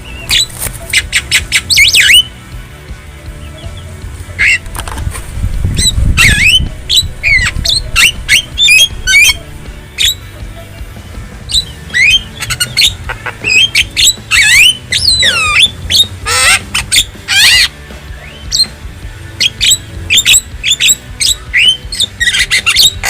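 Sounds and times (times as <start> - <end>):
myna squawking and whistling: 0.0 - 2.4, 3.4 - 4.7, 5.7 - 23.0.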